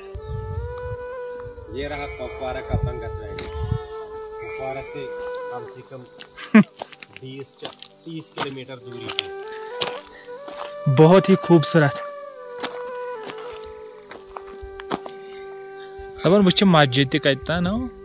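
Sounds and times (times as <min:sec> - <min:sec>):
high-pitched insect chorus: 0:00.0 - 0:18.0
slow melody of held notes: 0:00.0 - 0:18.0.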